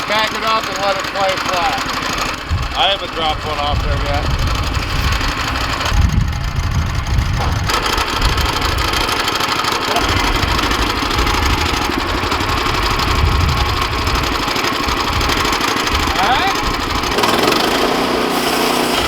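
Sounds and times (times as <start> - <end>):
band saw blade cutting log: 0.0 - 6.0, 7.3 - 19.0
small gasoline engine running: 0.0 - 19.0.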